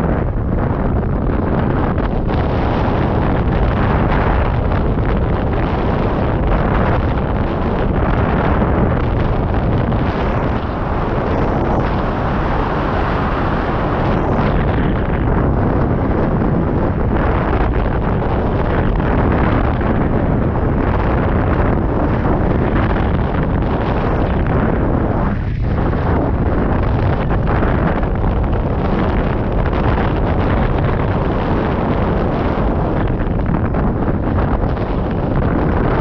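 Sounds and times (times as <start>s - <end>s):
wind rushing on microphone: 0.0s - 36.0s.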